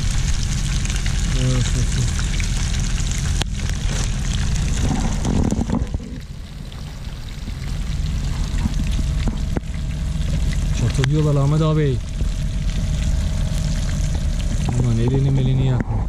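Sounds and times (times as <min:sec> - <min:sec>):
fish frying in hot oil: 0:00.0 - 0:15.8
oil popping: 0:00.0 - 0:15.8.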